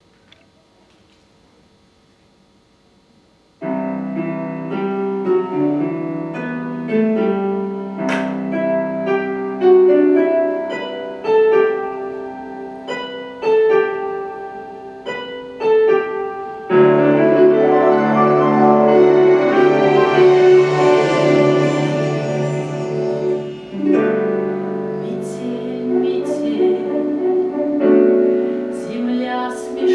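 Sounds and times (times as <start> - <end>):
piano playing: 3.6 - 29.9.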